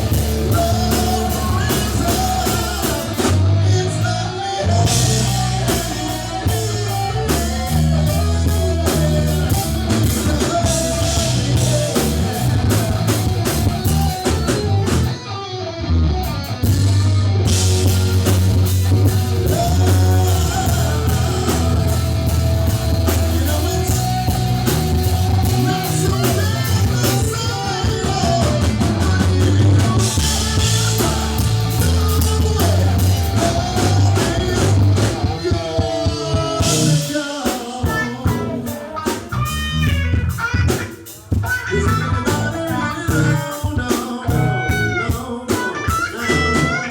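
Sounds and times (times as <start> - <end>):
person singing: 0.0 - 15.2, 17.4 - 46.9
rock band playing live: 0.0 - 46.9.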